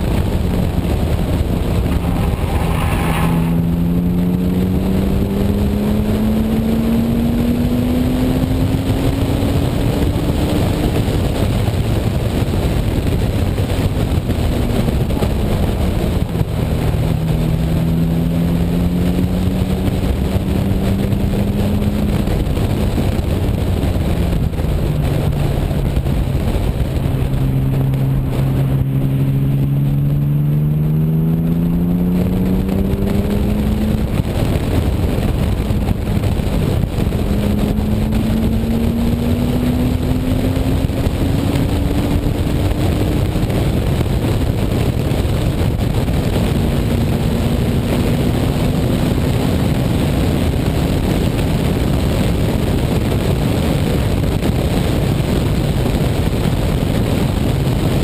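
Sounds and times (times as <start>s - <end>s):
car engine accelerating: 0.0s - 58.0s
wind rush on microphone: 0.0s - 58.0s.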